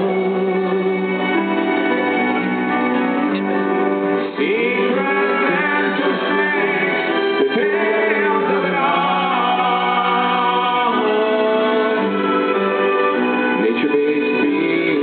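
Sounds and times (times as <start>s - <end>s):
person singing: 0.0s - 1.8s, 4.2s - 15.0s
sustained instrumental chords: 0.0s - 15.0s.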